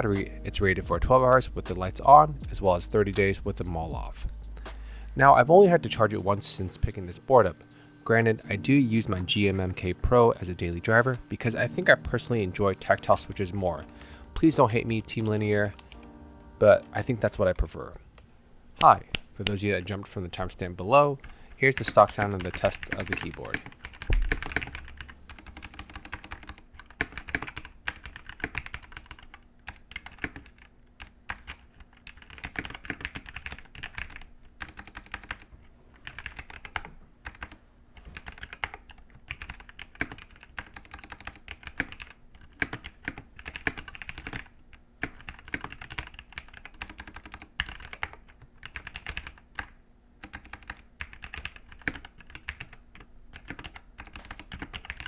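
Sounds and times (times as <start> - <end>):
mechanical keyboard typing: 5.2 - 17.6, 21.7 - 37.6, 38.2 - 55.0.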